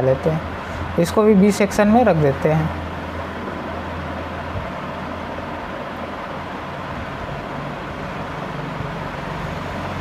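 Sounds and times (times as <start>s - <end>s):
background rumble and hiss: 0.0s - 10.0s.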